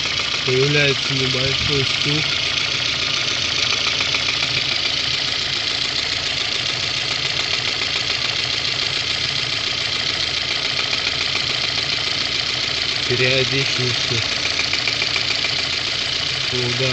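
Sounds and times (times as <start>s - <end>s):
car engine running: 0.0s - 16.9s
engine knock: 0.0s - 16.9s.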